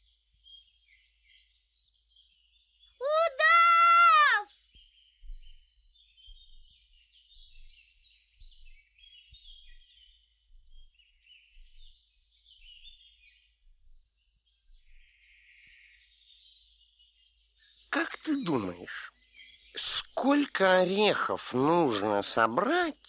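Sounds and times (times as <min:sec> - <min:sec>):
small birds twittering: 0:00.0 - 0:23.0.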